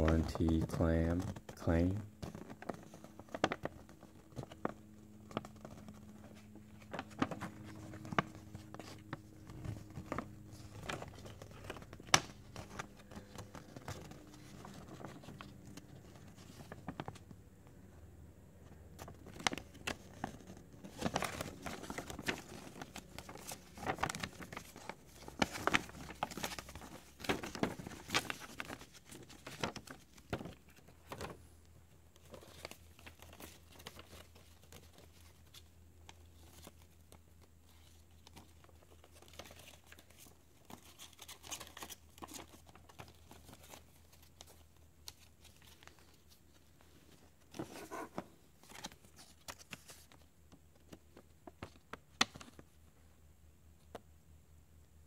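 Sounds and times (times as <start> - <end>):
paper leaflet crinkling and rustling: 0.0 - 17.8, 18.8 - 31.5, 32.1 - 52.9.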